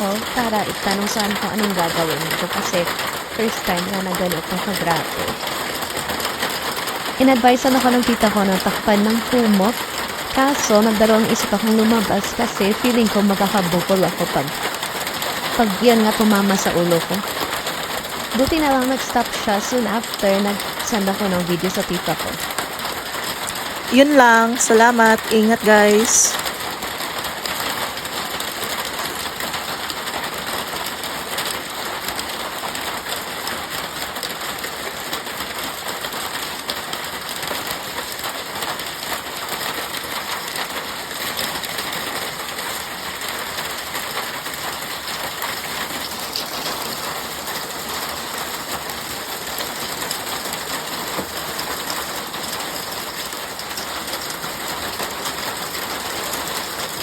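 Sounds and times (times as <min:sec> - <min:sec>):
hailstones clattering on ground and cars: 0:00.2 - 0:12.3, 0:17.2 - 0:19.3, 0:20.6 - 0:23.9, 0:26.3 - 0:57.0.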